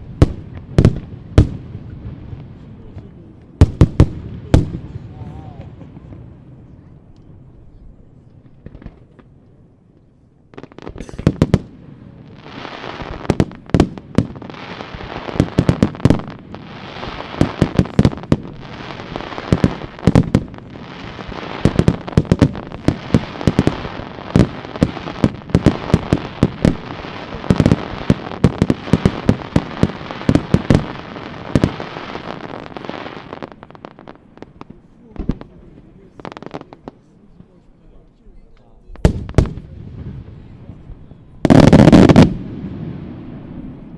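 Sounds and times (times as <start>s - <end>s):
fireworks crackling: 0.0s - 7.4s, 10.5s - 37.7s, 39.0s - 43.9s.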